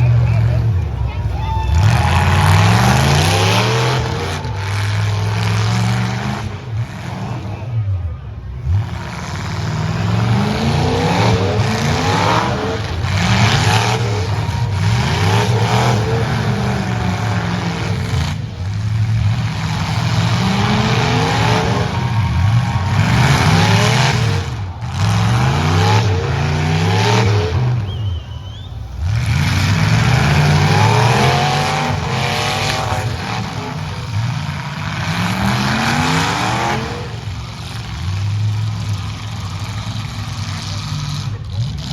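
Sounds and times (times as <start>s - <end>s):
truck engines revving hard: 0.0s - 41.9s.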